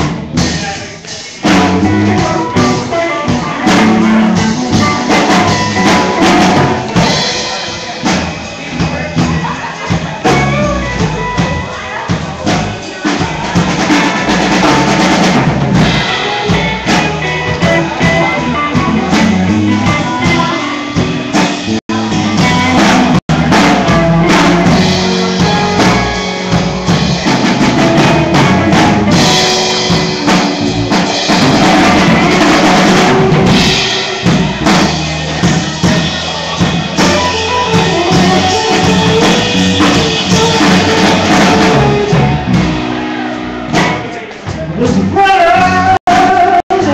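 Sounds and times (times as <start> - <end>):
live rock and roll band: 0.0 - 46.9.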